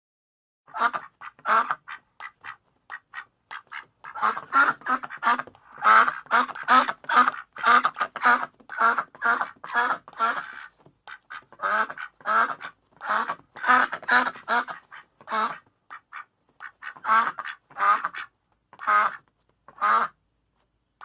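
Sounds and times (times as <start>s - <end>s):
duck quacking: 0.7s - 20.2s.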